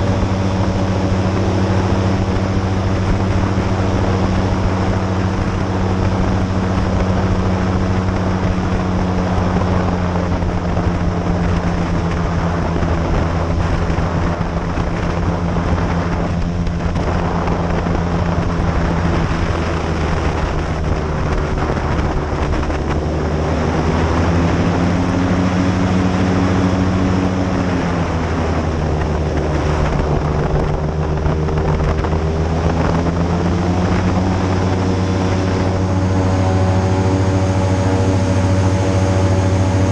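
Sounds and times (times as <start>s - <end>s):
airboat engine and propeller: 0.0s - 39.9s
wind on microphone: 0.0s - 39.9s.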